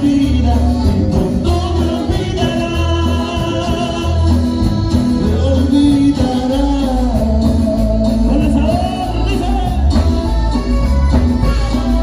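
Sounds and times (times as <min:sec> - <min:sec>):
band music: 0:00.0 - 0:12.0
bass: 0:00.0 - 0:12.0
guitar: 0:00.0 - 0:12.0
lead singer singing: 0:00.0 - 0:12.0.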